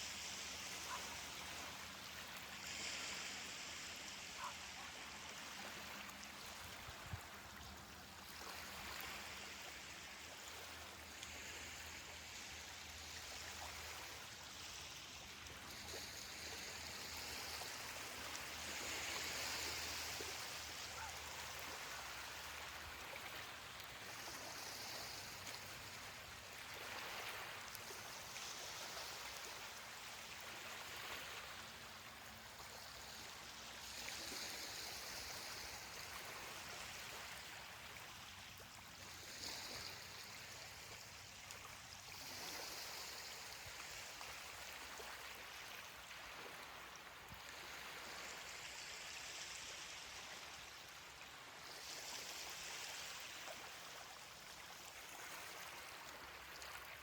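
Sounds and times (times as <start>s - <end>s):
ocean waves washing up beach: 0.0s - 57.0s.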